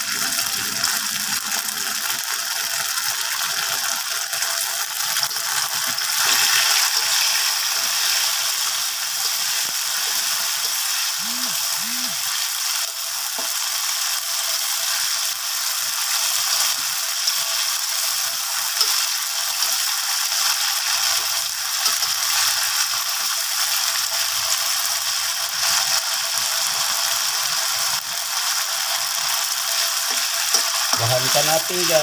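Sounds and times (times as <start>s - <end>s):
sauce sizzling in a wok: 0.0s - 32.0s.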